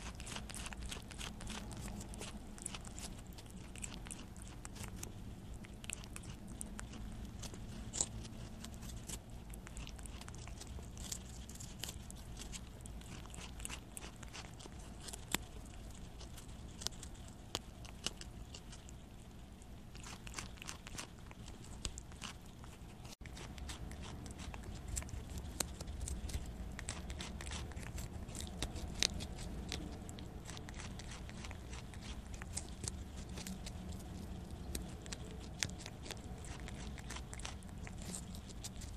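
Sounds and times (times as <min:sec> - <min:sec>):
animal chewing with crunching bites: 0:00.0 - 0:38.9
steady low rumble: 0:00.0 - 0:38.9.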